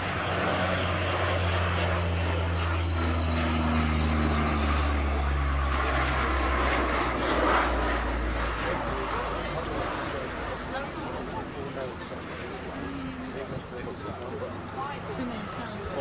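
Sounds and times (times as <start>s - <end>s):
propeller aircraft droning: 0.0s - 16.0s.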